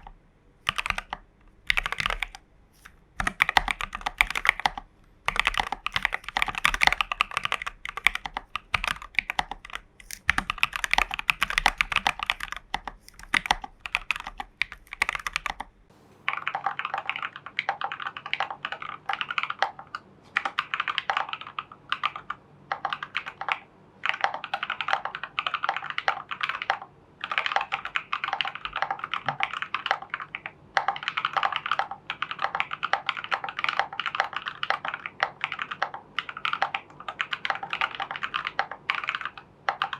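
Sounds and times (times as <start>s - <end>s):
typing on mechanical keyboard: 0.0s - 15.9s, 16.8s - 39.9s.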